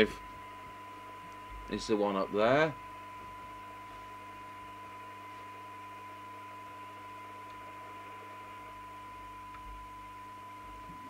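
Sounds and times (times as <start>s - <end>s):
low mains hum: 0.0s - 11.0s
steady radio test tone: 0.0s - 11.0s.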